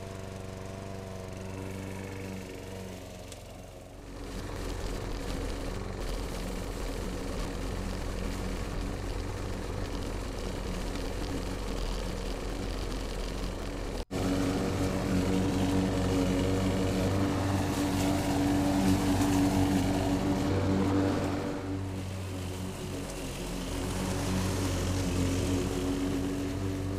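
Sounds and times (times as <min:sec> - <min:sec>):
lawn mower engine drone: 0:00.0 - 0:26.9.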